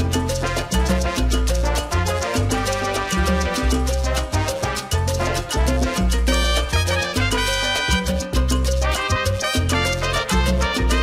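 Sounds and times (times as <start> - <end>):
salsa music with brass and bass: 0.0 - 11.0.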